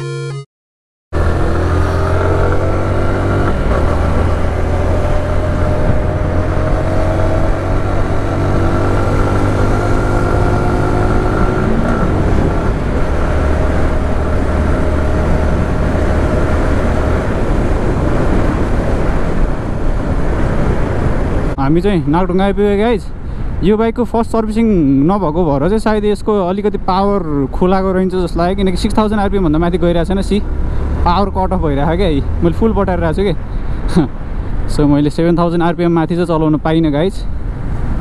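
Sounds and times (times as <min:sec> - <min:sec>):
wind and road noise: 0:01.1 - 0:38.0.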